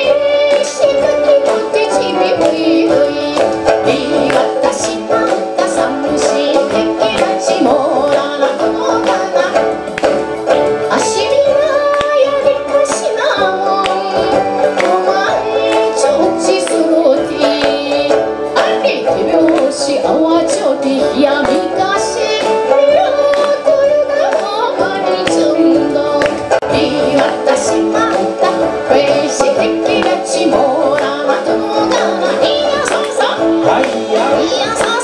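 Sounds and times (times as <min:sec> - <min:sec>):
woman singing: 0:00.0 - 0:10.2, 0:10.8 - 0:35.0
plucked lute: 0:00.0 - 0:35.0.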